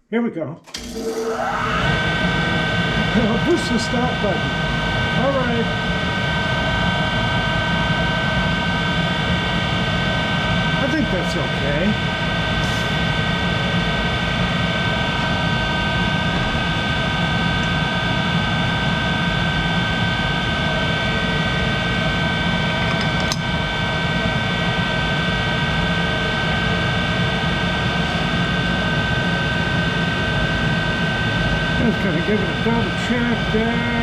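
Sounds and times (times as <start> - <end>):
lathe drive humming and whining: 0.7 - 34.0.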